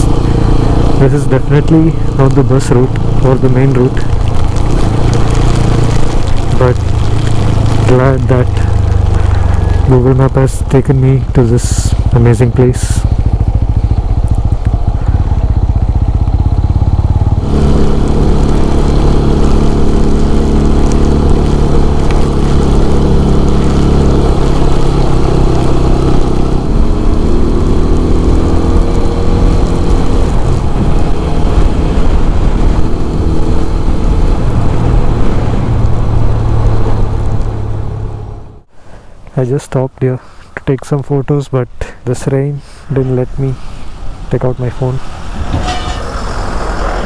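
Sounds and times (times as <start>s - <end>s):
wind rush on microphone: 0.0s - 38.6s
motorcycle engine running: 0.0s - 38.7s, 45.1s - 47.0s.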